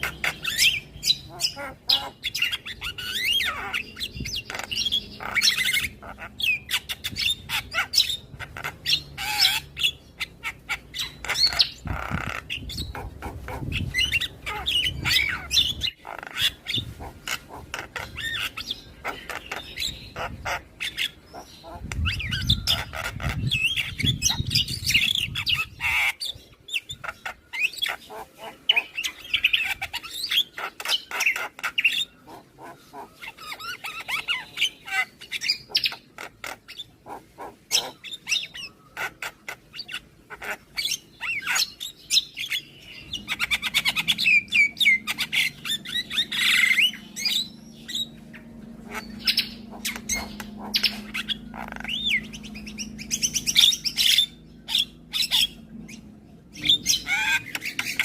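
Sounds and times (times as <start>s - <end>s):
myna chattering and calling: 0.0s - 58.0s.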